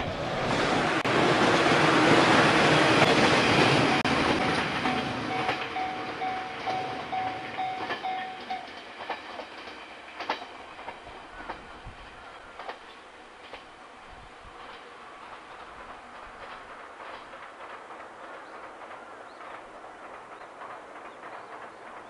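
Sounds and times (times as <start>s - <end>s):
electric train passing: 0.0s - 22.0s
wheels clicking over rail joints: 2.1s - 13.8s, 14.4s - 22.0s.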